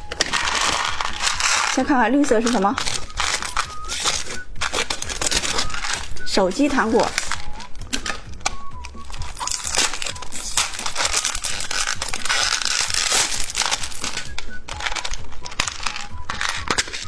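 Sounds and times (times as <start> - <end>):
background music: 0.0 - 17.0
plastic packaging crinkling: 0.0 - 17.0.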